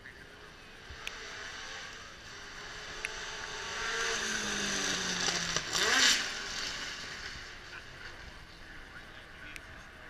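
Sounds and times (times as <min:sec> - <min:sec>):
racing car passing by: 0:00.4 - 0:10.0.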